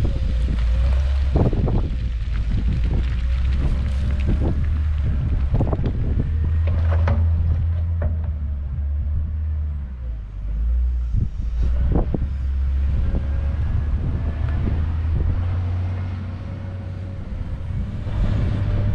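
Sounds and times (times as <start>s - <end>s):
diesel engine rumbling: 0.0s - 18.9s
wind buffeting microphone: 0.0s - 18.9s.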